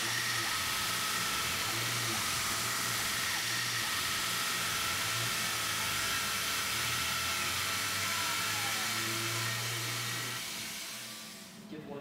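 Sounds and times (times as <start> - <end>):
milling machine spindle whine: 0.0 - 11.6.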